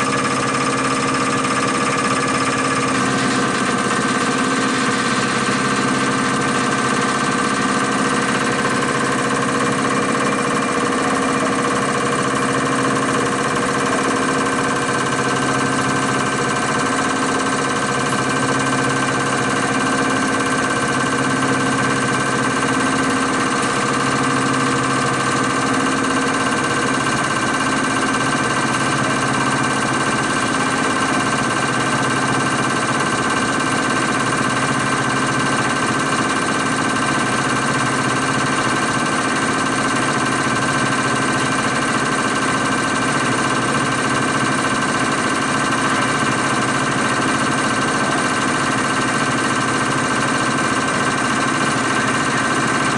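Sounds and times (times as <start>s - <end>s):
test bench mechanical din: 0.0s - 52.9s.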